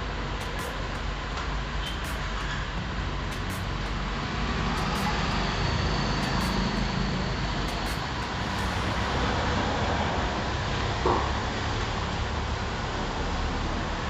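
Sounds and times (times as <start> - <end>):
motor vehicle running rumble: 0.0 - 13.0.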